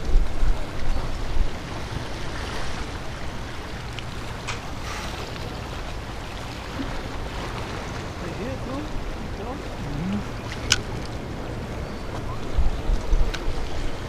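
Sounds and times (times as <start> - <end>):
waves washing against rocks: 0.0 - 11.6
wind rumbling on microphone: 0.0 - 14.0.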